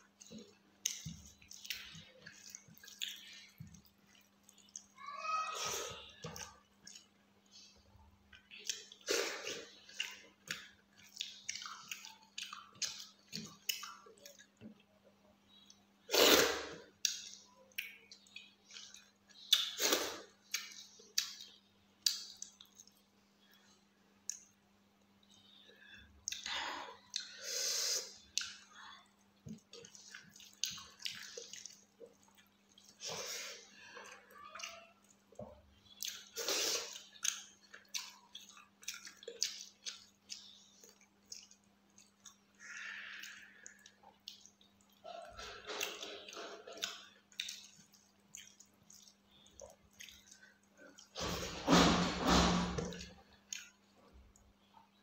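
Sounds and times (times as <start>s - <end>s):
wet chewing and lip-smacking: 0.0s - 5.0s, 5.9s - 15.9s, 16.9s - 27.4s, 28.0s - 51.6s, 52.3s - 55.0s.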